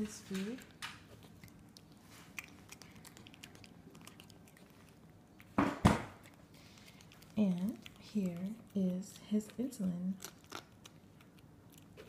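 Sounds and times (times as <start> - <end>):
cat chewing: 0.6 - 12.0.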